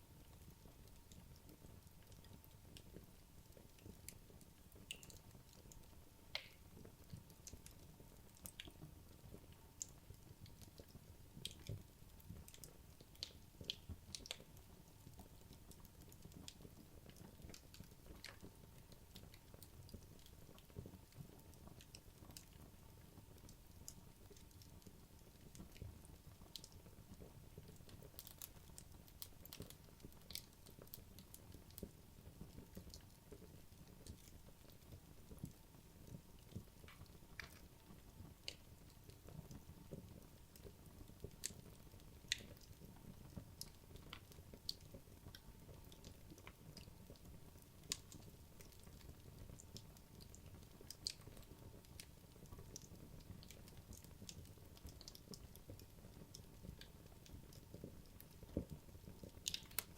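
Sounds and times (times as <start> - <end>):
fire crackling and popping: 0.1 - 59.9.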